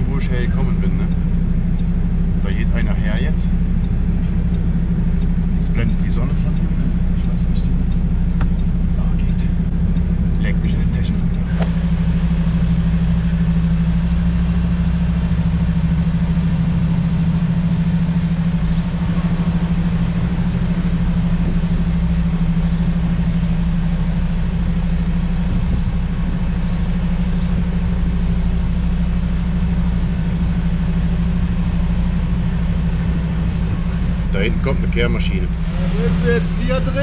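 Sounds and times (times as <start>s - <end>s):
truck diesel engine humming: 0.0s - 37.0s.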